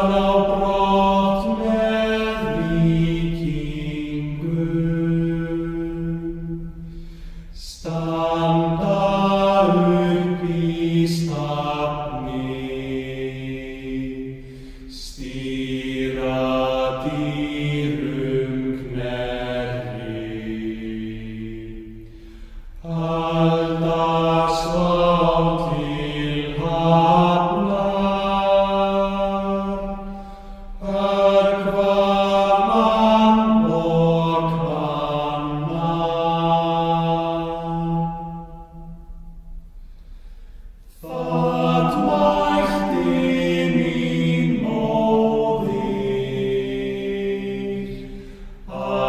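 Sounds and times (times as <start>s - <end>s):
faint low drone: 0.0s - 49.0s
slow chant-like singing: 0.0s - 49.0s.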